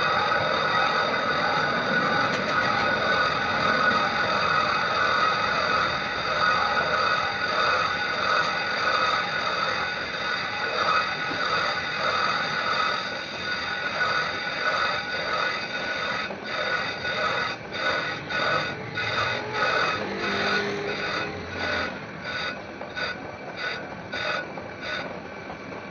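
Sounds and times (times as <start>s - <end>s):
machine high whine: 0.0s - 25.9s.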